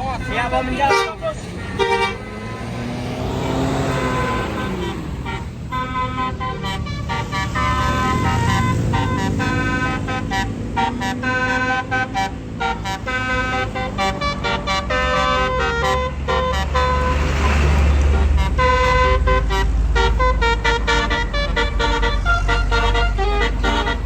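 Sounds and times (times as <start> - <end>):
bus engine rumble: 0.0 - 24.0
multi-tone air horns playing tune: 0.0 - 24.0.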